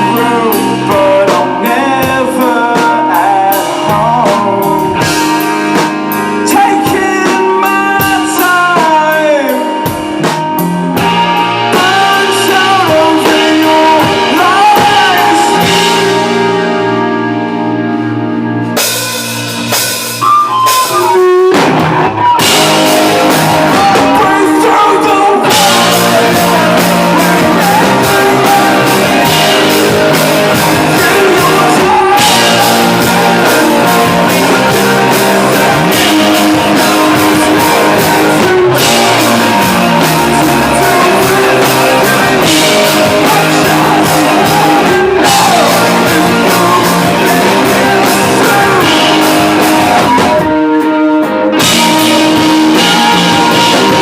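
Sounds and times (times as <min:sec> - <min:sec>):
electric guitar chords: 0:00.0 - 0:54.0
rock band playing live: 0:00.0 - 0:54.0.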